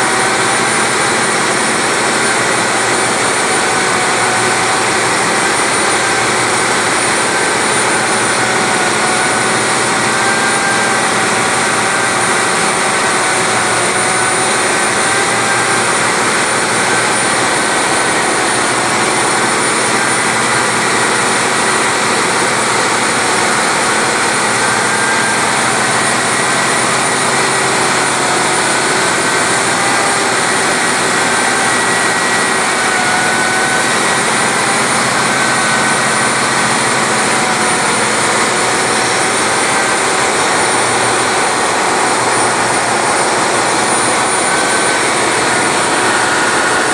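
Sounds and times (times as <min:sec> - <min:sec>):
engine room machinery noise: 0:00.0 - 0:46.9.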